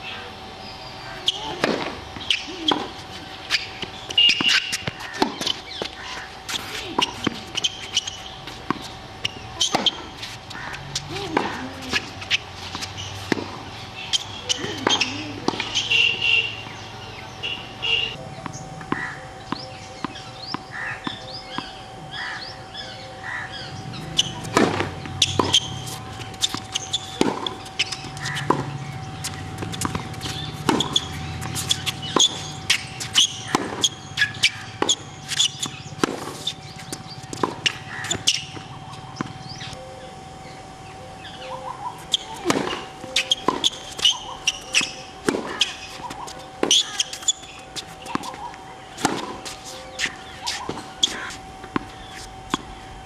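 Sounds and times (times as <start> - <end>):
birds calling: 0.0 - 53.0
tennis balls struck and bouncing: 1.2 - 17.2, 18.4 - 21.8, 23.9 - 39.8, 41.9 - 52.8.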